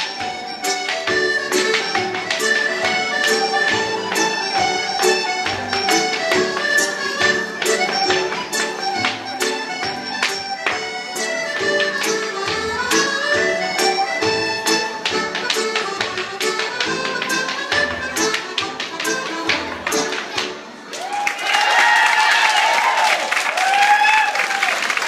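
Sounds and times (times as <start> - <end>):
dance shoes tapping on stage: 0.0 - 20.7
traditional dance tune: 0.0 - 20.9.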